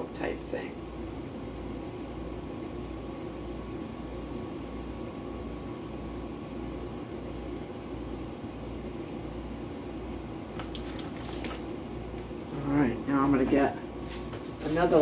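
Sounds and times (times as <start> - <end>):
kitchen appliances humming: 0.0 - 15.0.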